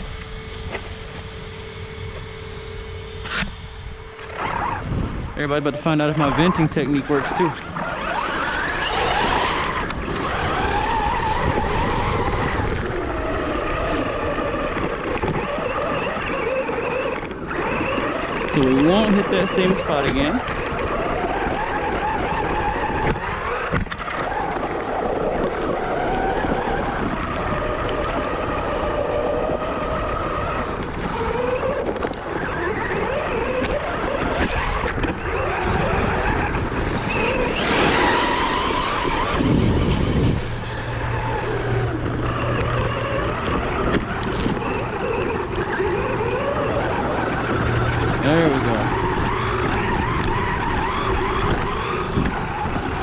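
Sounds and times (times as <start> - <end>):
rc car motor whining: 0.0 - 53.0
steady low hum: 0.0 - 53.0
tyre and ground noise: 0.0 - 53.0.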